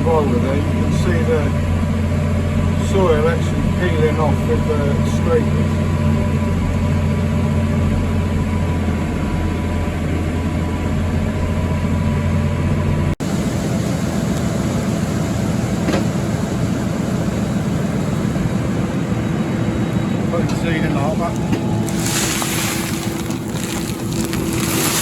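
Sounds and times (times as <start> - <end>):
noisier engine running: 0.0 - 25.0.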